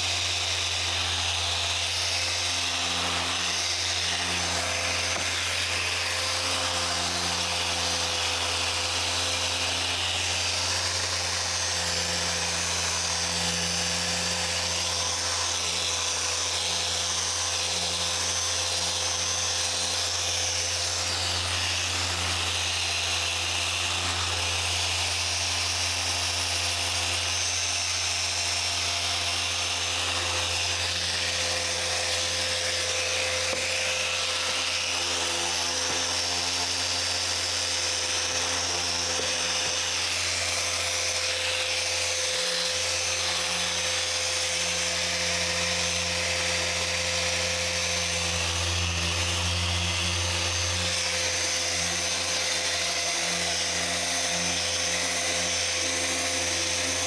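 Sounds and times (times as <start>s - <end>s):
car polisher running: 0.0s - 57.0s.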